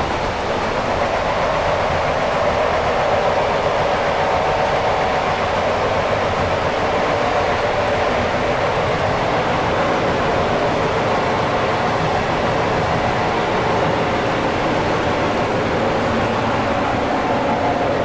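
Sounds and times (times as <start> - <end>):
train carriage rolling on rails: 0.0 - 18.0.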